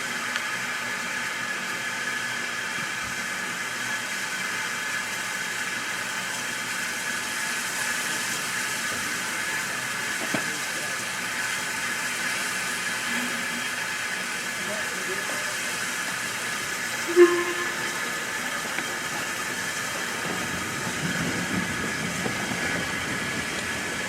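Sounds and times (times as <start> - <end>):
steam hissing: 3.9 - 24.0.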